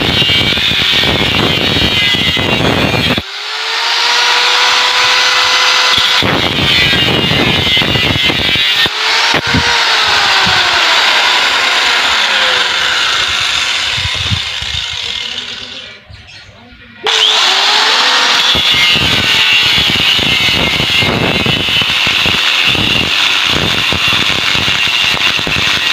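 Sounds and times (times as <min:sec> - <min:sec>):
angle grinder cutting steel: 0:00.0 - 0:16.0, 0:17.0 - 0:25.9.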